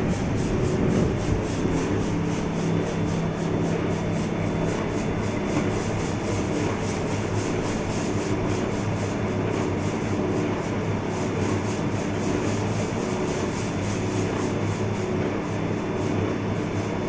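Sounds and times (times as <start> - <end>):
lathe humming: 0.0 - 15.2.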